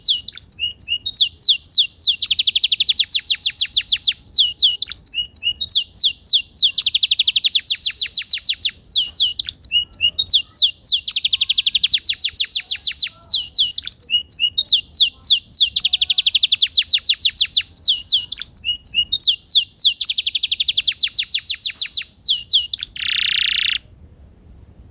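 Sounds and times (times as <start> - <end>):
canary singing: 0.0 - 23.9.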